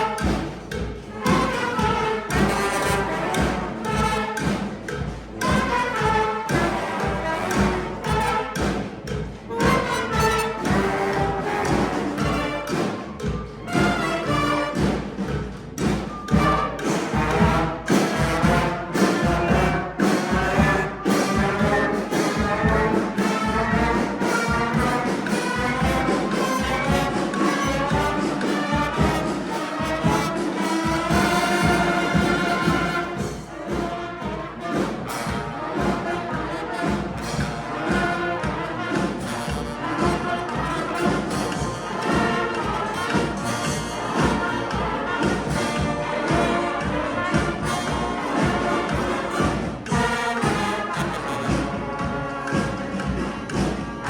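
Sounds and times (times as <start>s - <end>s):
driving drum beats: 0.0s - 54.0s
horns and trombones: 0.0s - 54.0s.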